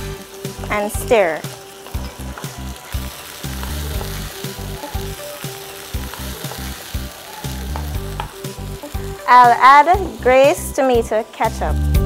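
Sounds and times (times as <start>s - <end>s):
background music: 0.0s - 12.0s
vegetables sizzling in a pan: 0.0s - 12.0s.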